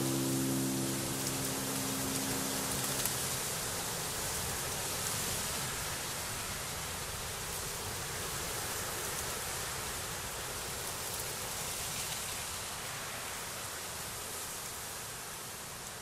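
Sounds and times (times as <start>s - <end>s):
wind through tall grass: 0.0s - 16.0s.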